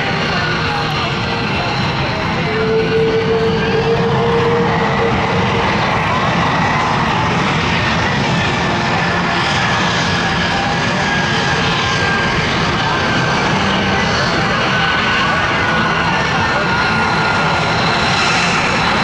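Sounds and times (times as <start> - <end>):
aircraft engine noise: 0.0 - 19.0.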